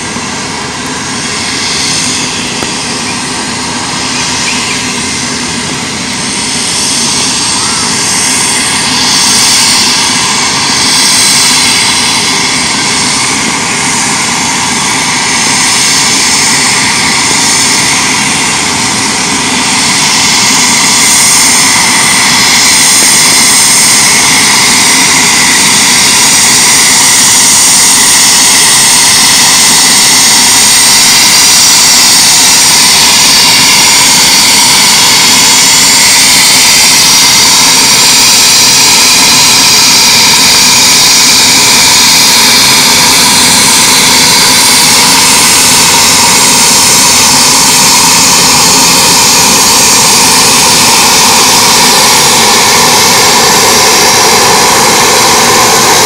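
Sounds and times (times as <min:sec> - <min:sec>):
turboprop engine and propeller: 0:00.0 - 0:56.0.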